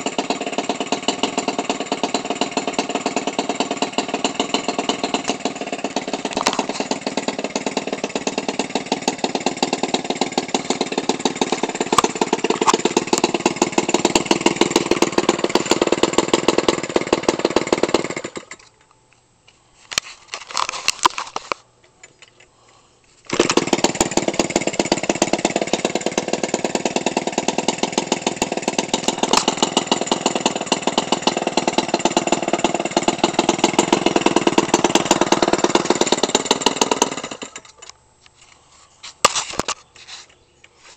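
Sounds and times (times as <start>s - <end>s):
small engine idling: 0.0s - 18.9s, 21.8s - 40.8s.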